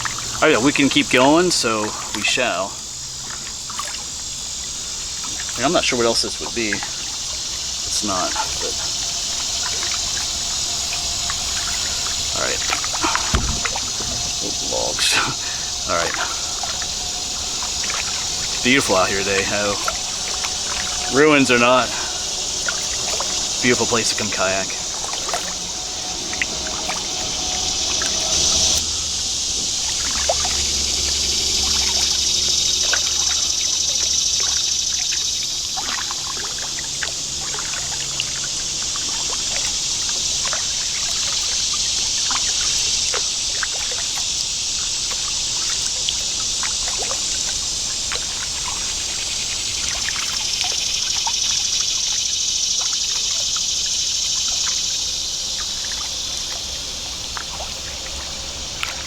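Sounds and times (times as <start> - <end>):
small water splashes: 0.0 - 59.0
steady hiss: 0.0 - 59.0
water dripping off paddle: 0.0 - 59.0.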